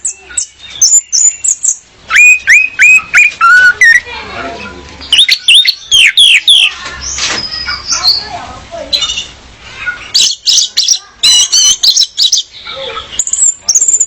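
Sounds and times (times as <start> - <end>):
thrush calling: 0.0 - 4.2, 5.1 - 14.0.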